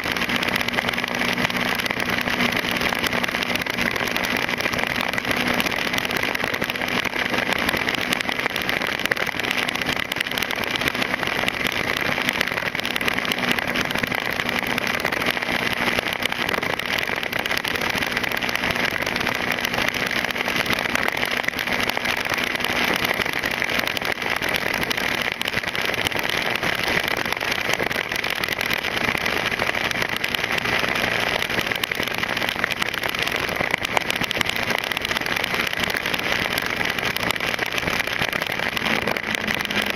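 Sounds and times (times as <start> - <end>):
motorcycle engine hum: 0.0 - 39.9
wind and road noise: 0.0 - 39.9.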